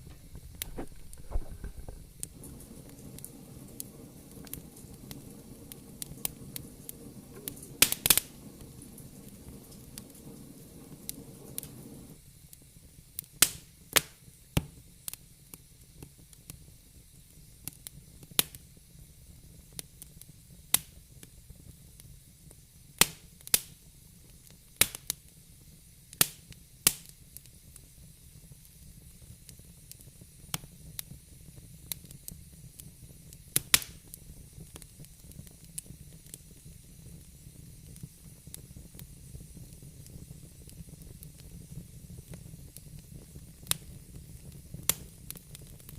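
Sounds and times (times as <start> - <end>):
fire crackling and popping: 0.0 - 45.9
low steady hiss: 0.0 - 45.9.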